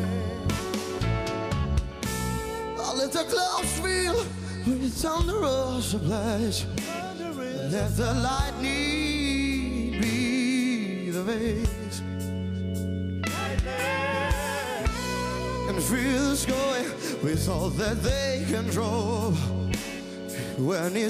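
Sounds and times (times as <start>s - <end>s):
man singing a slow ballad: 0.0s - 1.0s, 2.7s - 12.3s, 13.2s - 21.0s
band accompaniment with bass: 0.0s - 21.0s.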